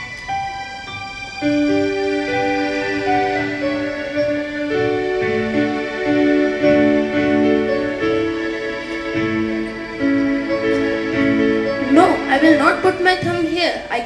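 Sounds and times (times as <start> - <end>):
keyboard playing slow melody: 0.0 - 14.0.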